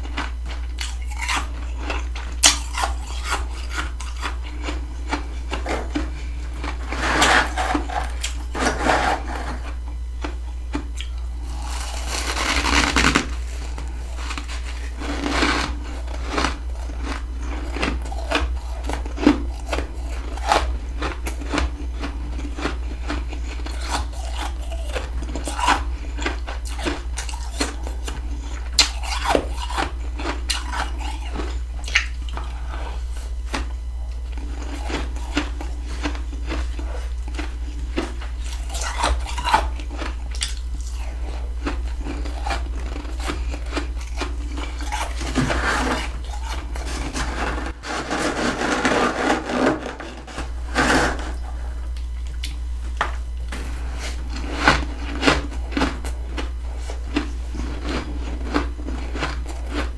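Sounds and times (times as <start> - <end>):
frost being chewed crunching: 0.0 - 59.9
steady low hum: 0.0 - 59.9.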